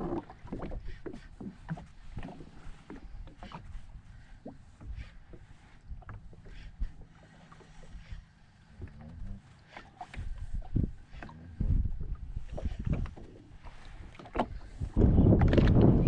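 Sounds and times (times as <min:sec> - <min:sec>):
water lapping against hull: 0:00.0 - 0:16.0.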